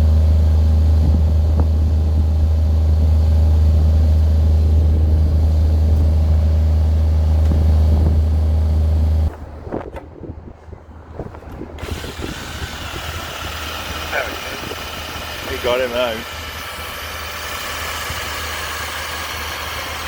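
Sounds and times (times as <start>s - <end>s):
large engine humming: 0.0s - 20.0s.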